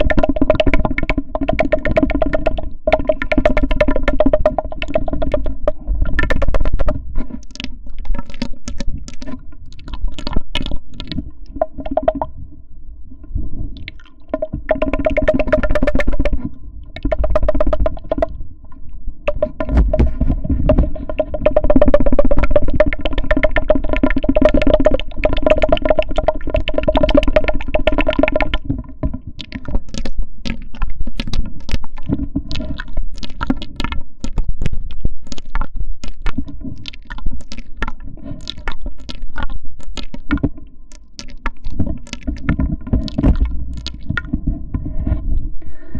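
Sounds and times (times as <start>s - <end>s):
rapid irregular clicks and taps: 0.0s - 12.3s, 13.8s - 45.2s.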